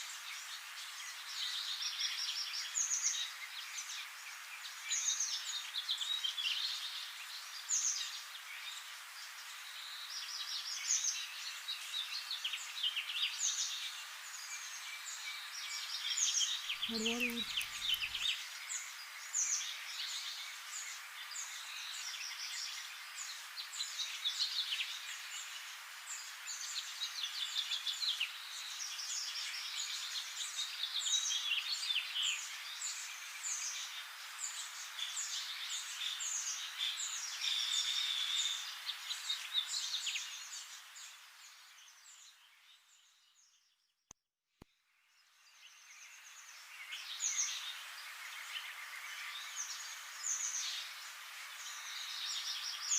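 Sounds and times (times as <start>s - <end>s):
small birds chirping and twittering: 0.0s - 52.9s.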